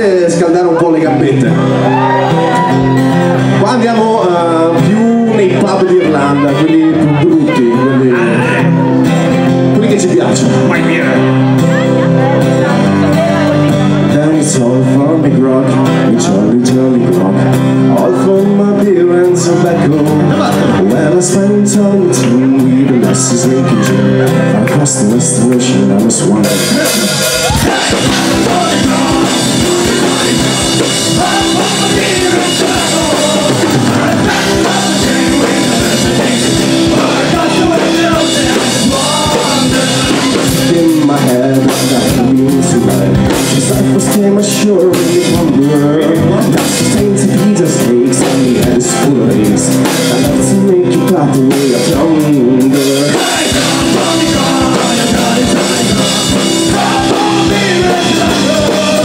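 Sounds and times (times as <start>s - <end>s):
folk-rock band playing live: 0.0s - 59.0s
drum kit: 1.1s - 59.0s.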